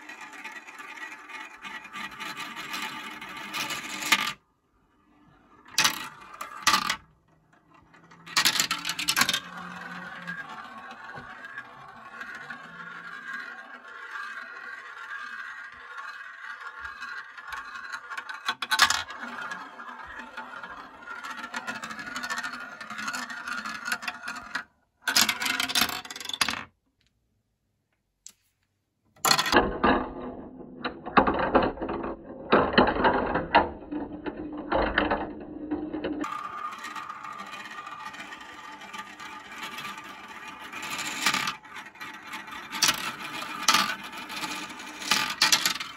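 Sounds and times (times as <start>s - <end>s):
marbles clattering down chutes: 0.0s - 4.4s, 5.1s - 26.7s, 29.2s - 45.9s
marbles rolling whirr: 0.0s - 26.7s, 29.2s - 45.9s.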